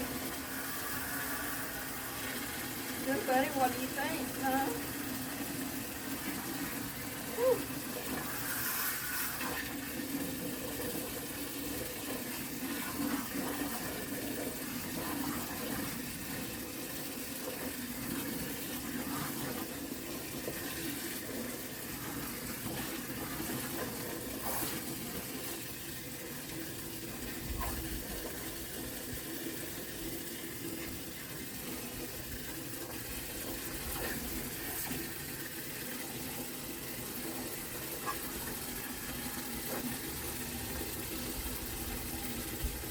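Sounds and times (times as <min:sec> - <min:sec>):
water running into a bucket: 0:00.0 - 0:42.9.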